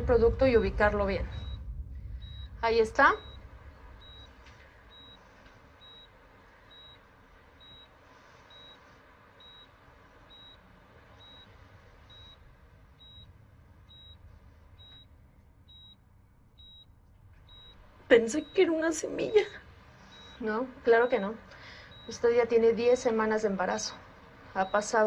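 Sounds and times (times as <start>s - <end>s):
low steady hum: 0.0s - 25.0s
patient monitor beeping: 1.1s - 25.0s.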